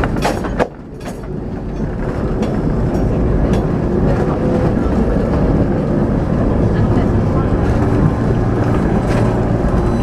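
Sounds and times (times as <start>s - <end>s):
tram rumbling on rails: 0.0s - 10.0s
wheels clicking over track: 0.0s - 10.0s.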